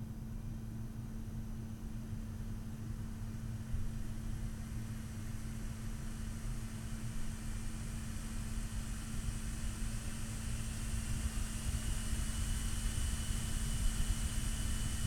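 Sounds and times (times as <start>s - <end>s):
fan high whine: 2.9s - 15.0s.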